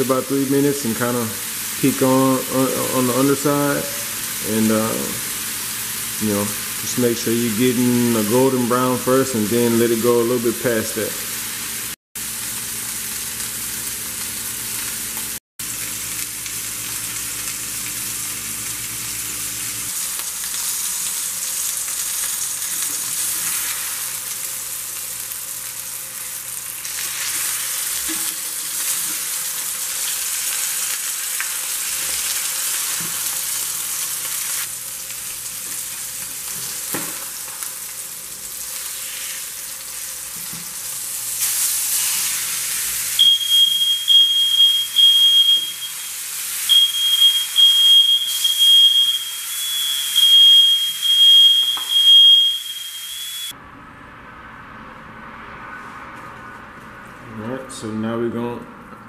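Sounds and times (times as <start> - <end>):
beef sizzling in a pan: 0.1 - 7.0, 11.1 - 53.6.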